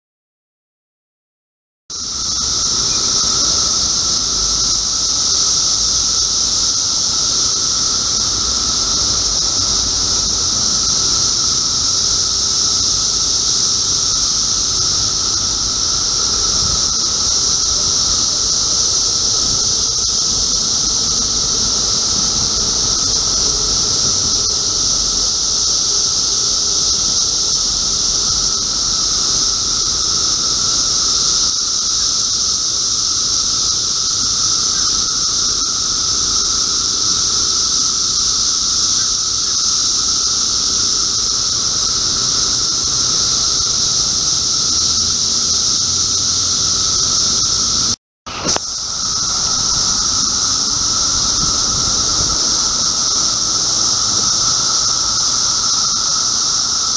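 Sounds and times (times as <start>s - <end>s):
cicadas droning: 1.9s - 56.9s.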